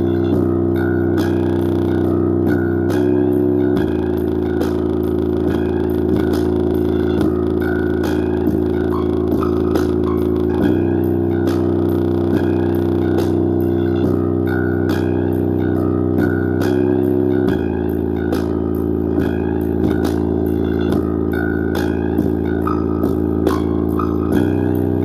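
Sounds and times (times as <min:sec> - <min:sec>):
bass-heavy music through speaker: 0:00.0 - 0:25.0.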